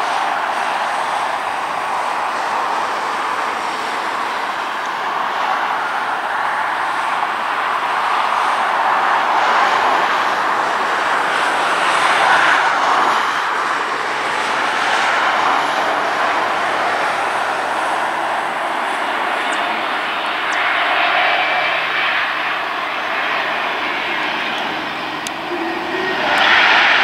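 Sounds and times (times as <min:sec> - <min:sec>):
jet engine rush: 0:00.0 - 0:27.0.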